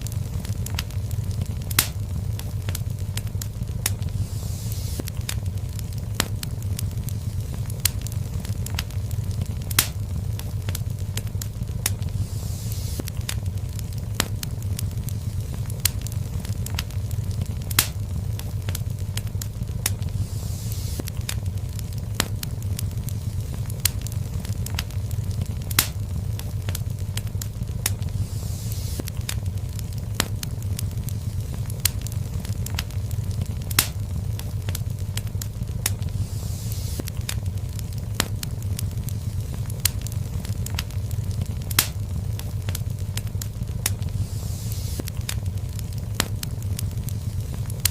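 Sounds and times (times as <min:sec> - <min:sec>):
fire crackles and pops: 0:00.0 - 0:47.9
fire flames rumbling: 0:00.0 - 0:47.9.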